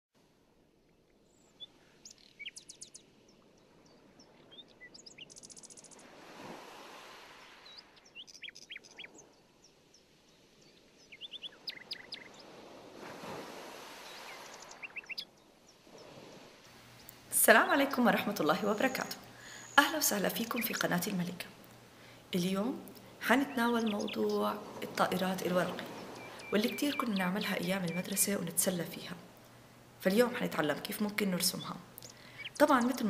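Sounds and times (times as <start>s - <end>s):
birds twittering: 1.3s - 6.0s, 7.4s - 12.6s, 13.9s - 16.2s, 16.8s - 21.4s, 22.0s - 33.0s.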